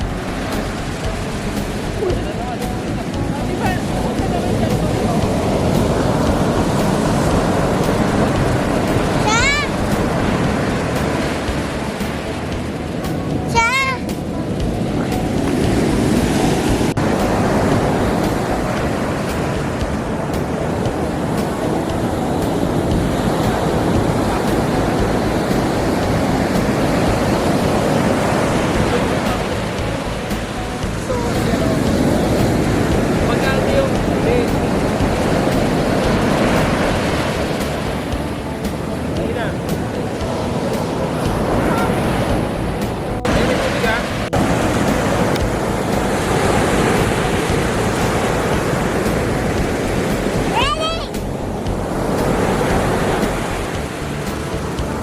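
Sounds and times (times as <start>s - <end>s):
ocean waves washing in: 0.0s - 55.0s
wind buffeting microphone: 0.0s - 55.0s.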